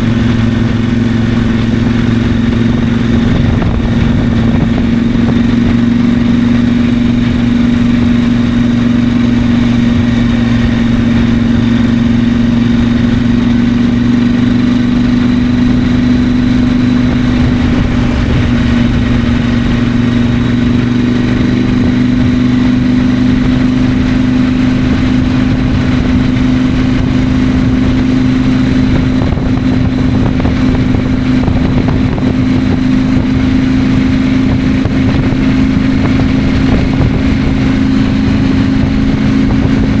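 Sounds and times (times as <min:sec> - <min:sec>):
motorcycle engine cruising: 0:00.0 - 0:40.0
wind rumble on microphone: 0:00.0 - 0:40.0.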